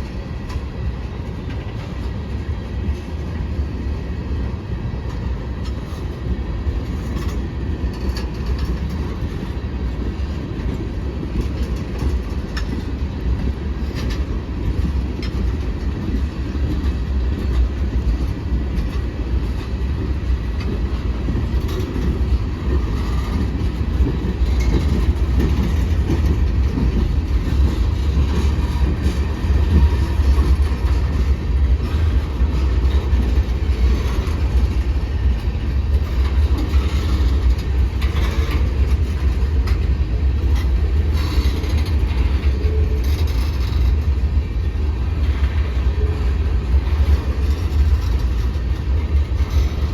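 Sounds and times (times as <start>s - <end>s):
freight train rumbling past: 0.0s - 49.9s
wheels clicking over rails: 5.1s - 49.9s.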